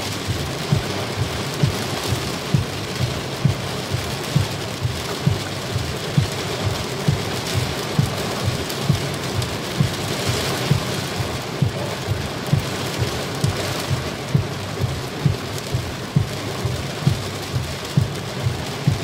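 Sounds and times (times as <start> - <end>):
heavy rain on car roof: 0.0 - 19.0
windshield wipers thudding: 0.0 - 19.0.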